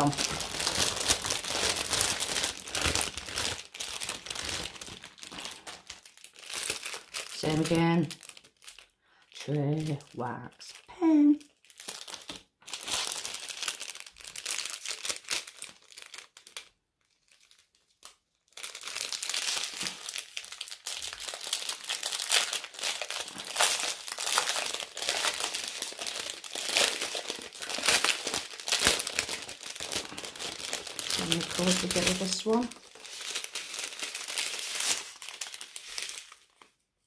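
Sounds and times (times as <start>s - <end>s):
plastic packaging crinkling: 0.0s - 36.8s.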